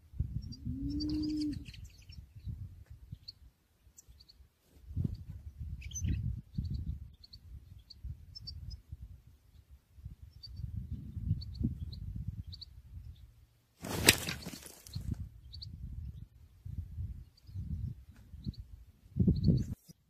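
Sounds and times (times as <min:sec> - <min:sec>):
small songbirds chirping: 0:00.1 - 0:13.6, 0:14.4 - 0:19.9.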